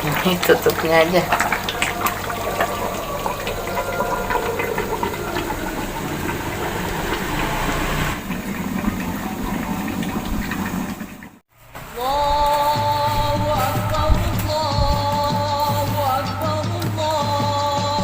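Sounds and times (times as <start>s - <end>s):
pot cooking hiss: 0.0s - 18.0s.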